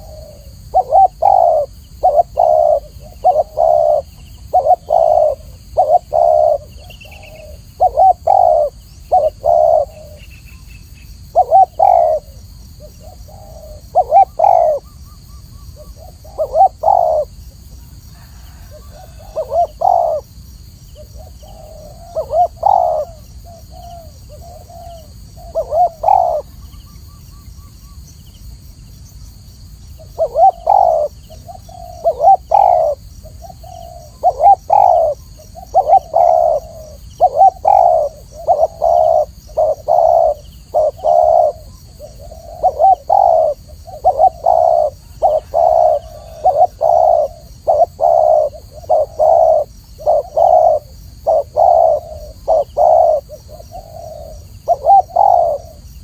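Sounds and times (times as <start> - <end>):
dove cooing: 0.0 - 10.6, 11.2 - 27.2, 30.0 - 56.0.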